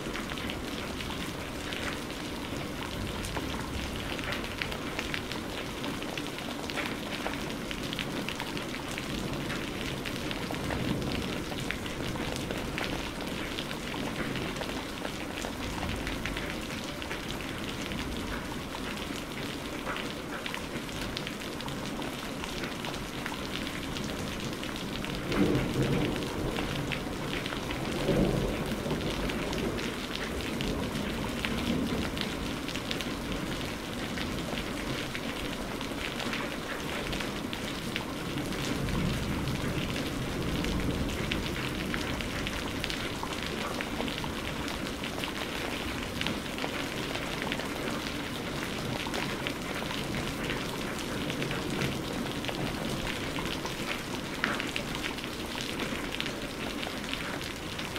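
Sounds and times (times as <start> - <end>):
heavy rain: 0.0 - 57.9
raindrops ticking: 0.0 - 57.9.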